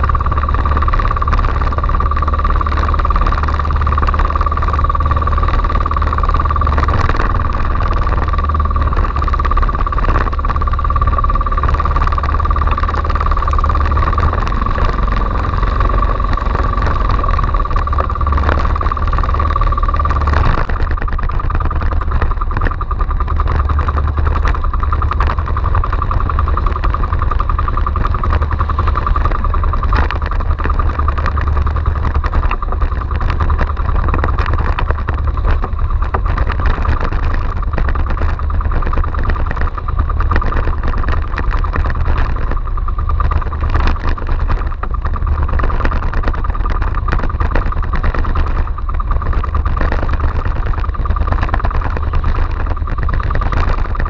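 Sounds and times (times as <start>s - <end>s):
boat engine running: 0.0s - 54.0s
choppy water against hull: 0.0s - 54.0s.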